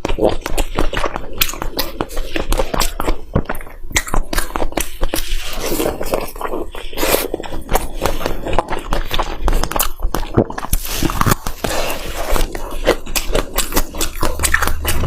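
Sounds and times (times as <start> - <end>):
biting and chewing crunches: 0.0 - 15.0.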